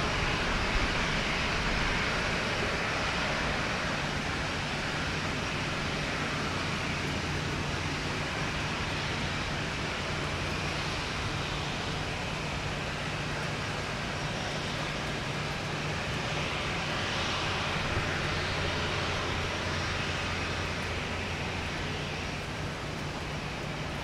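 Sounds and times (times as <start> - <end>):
jet engines idling: 0.0 - 24.0.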